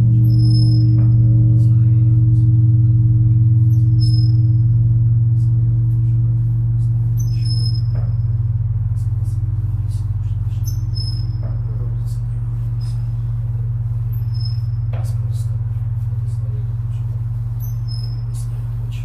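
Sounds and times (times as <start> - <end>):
birds chirping: 0.0 - 19.0
large bell humming: 0.0 - 19.0.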